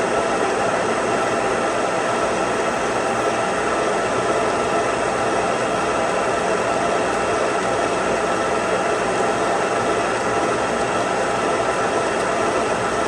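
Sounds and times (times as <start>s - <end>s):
milling machine running: 0.0s - 13.0s.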